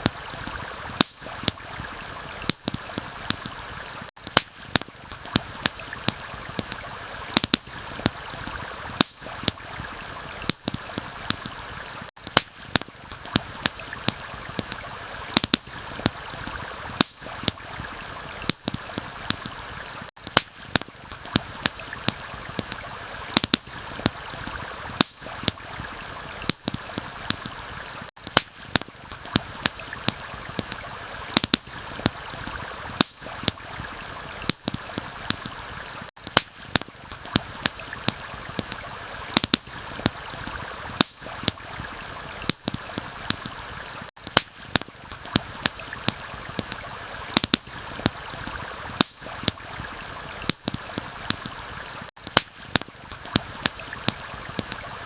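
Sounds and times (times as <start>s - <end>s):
campfire crackling and popping: 0.0s - 55.0s
flowing stream: 0.0s - 55.0s.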